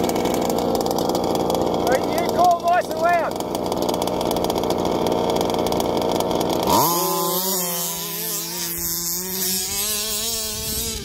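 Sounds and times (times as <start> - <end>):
engine revving high: 0.0 - 11.0
rc car engines running rough: 0.0 - 11.0.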